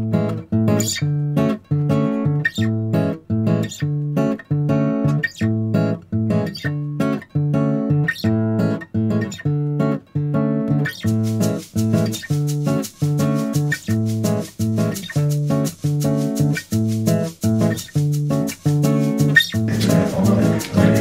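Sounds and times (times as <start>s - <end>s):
guitar playing plucked pattern: 0.0s - 21.0s.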